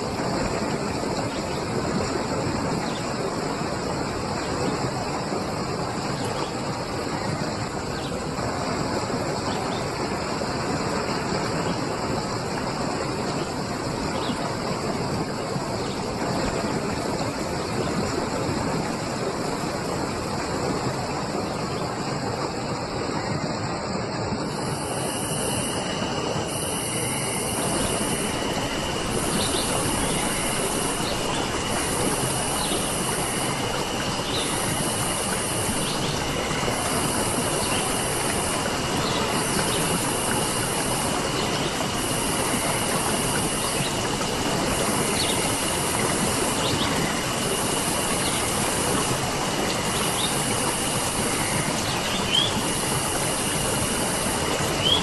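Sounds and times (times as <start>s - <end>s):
rushing water: 0.0s - 55.0s
steady high whine: 0.0s - 55.0s.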